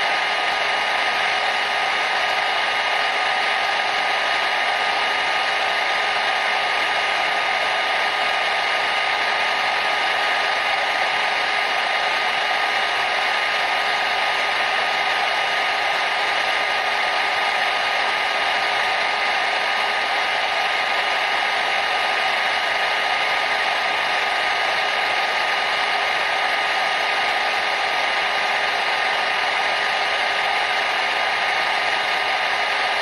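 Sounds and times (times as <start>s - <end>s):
hair dryer running: 0.0s - 33.0s.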